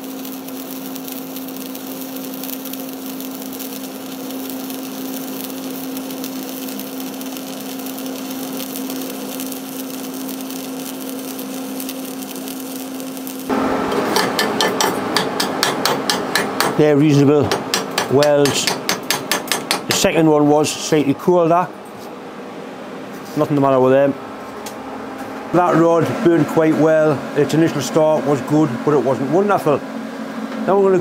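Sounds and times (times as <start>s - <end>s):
welding arc crackle and hiss: 0.0s - 22.2s, 23.2s - 29.8s
constant low hum: 0.0s - 31.0s.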